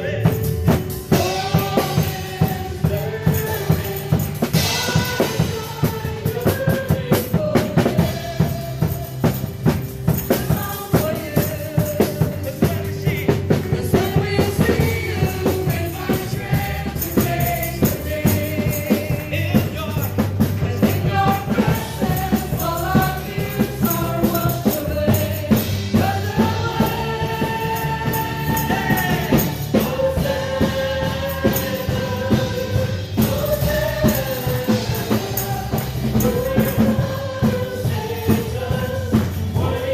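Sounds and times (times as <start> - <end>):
drum kit beat: 0.0 - 39.9
singers carrying a melody: 1.0 - 39.9.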